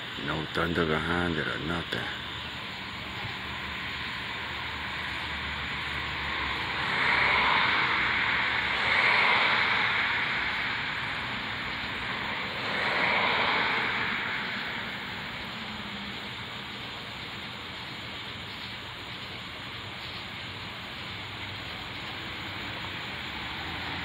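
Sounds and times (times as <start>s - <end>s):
vehicles passing on road: 0.0s - 24.0s.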